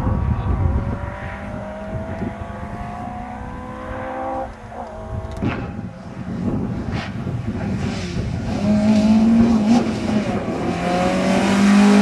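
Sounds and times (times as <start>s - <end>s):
car engine pulling away: 0.4s - 12.0s.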